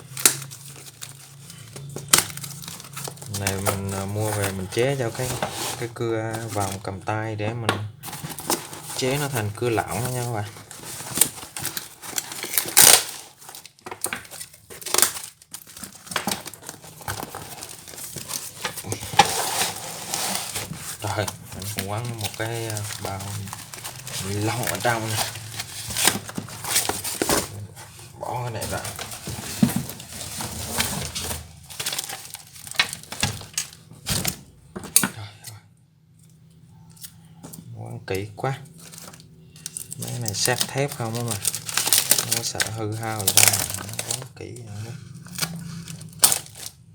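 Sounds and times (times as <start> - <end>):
plastic wrap crinkling and tearing: 0.0 - 6.9, 8.0 - 34.4, 38.7 - 46.9.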